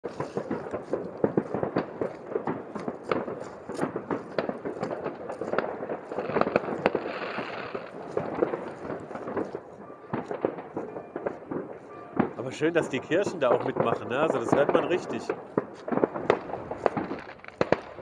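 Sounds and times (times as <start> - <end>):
distant fireworks and firecrackers: 0.1 - 18.0.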